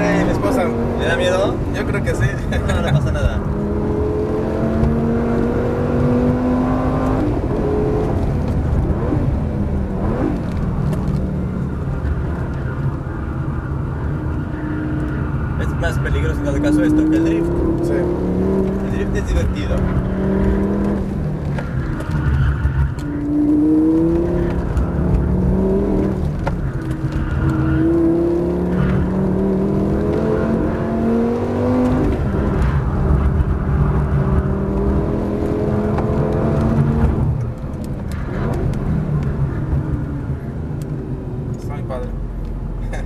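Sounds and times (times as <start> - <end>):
car engine accelerating: 0.0 - 43.0.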